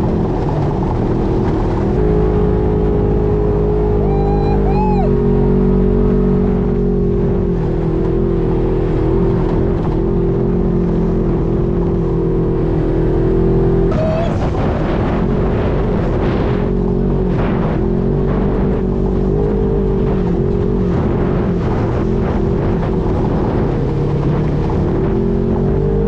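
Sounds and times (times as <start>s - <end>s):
utility vehicle engine running: 0.0s - 26.0s.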